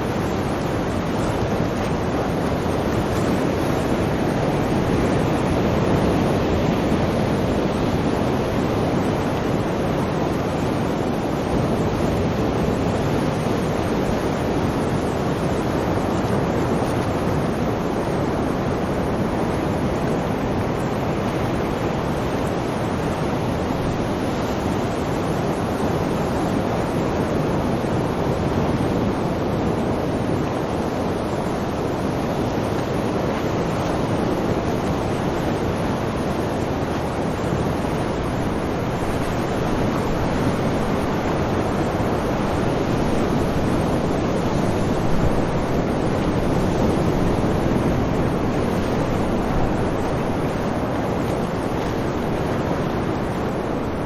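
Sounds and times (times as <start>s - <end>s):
sea waves: 0.0s - 54.0s.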